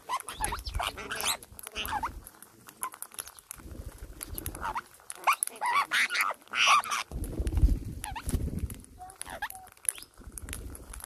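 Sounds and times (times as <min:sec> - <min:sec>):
parakeets chirping and squawking: 0:00.0 - 0:11.0.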